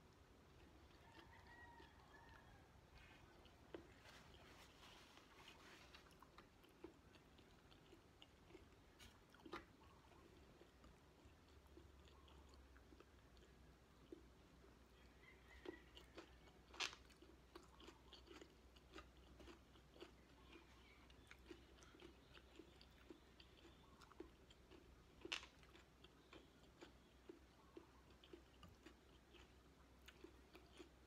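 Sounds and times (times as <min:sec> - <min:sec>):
person chewing: 0:00.1 - 0:31.0
food crunches: 0:03.0 - 0:14.2, 0:15.5 - 0:31.0.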